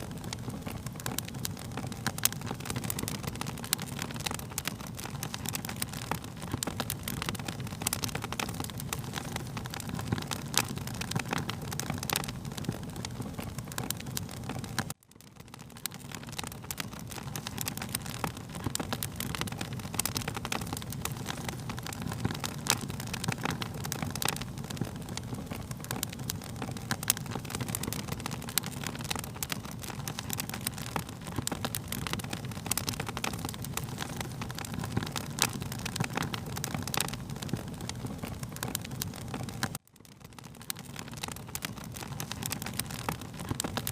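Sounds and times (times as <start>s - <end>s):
fire crackles and pops: 0.0s - 43.9s
wood fire rushing flame: 0.0s - 43.9s.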